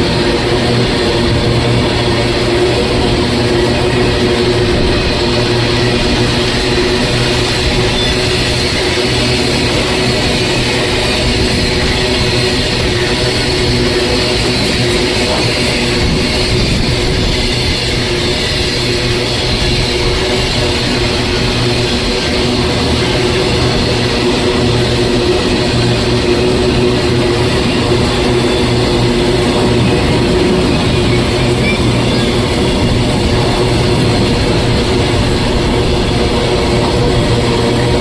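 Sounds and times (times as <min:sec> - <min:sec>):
low engine drone: 0:00.0 - 0:38.0
train rumbling: 0:00.0 - 0:38.0.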